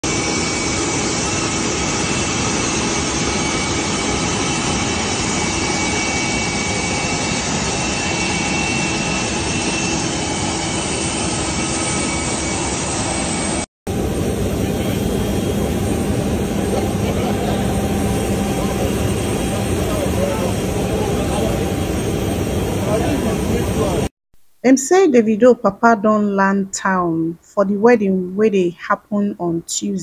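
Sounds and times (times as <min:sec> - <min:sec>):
jet engines running: 0:00.0 - 0:24.1.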